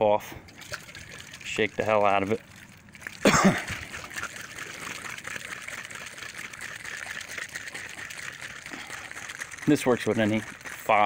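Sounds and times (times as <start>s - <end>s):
spray can shaken and rattling: 0.5s - 11.0s.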